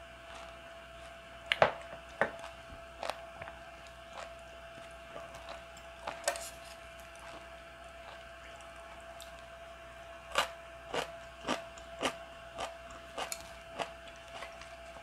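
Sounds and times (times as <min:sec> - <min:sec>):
faint steady high hum: 0:00.0 - 0:15.0.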